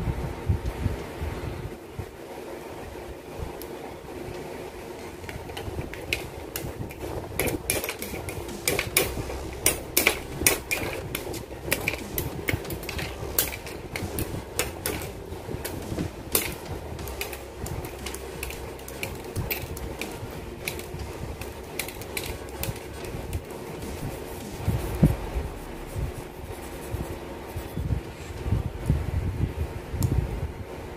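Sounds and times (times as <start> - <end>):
low hum: 4.0 - 30.6.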